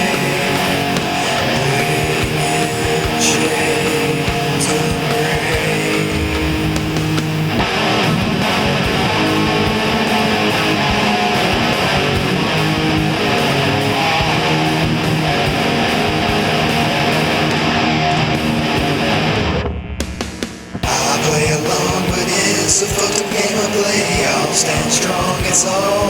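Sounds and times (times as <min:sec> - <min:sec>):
metal electric guitars and bass: 0:00.0 - 0:26.0.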